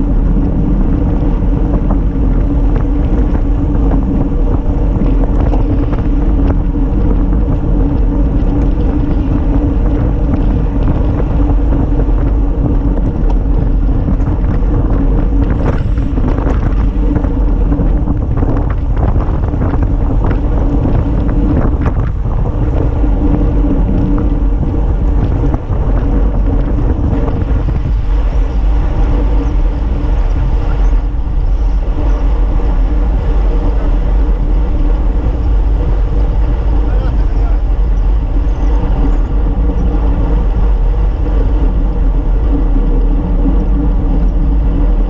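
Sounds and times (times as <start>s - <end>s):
tyres humming on asphalt: 0.0s - 45.0s
wind on microphone: 0.0s - 45.0s.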